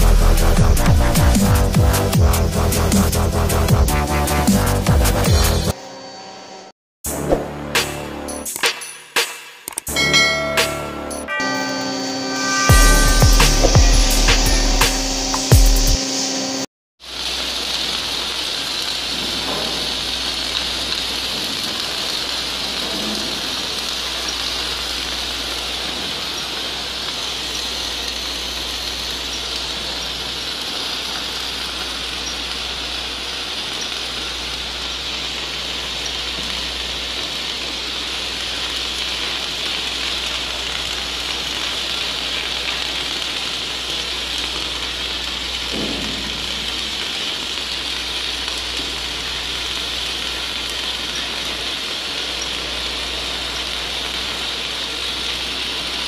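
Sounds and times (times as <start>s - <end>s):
welding arc sizzling hiss: 0.0s - 56.0s.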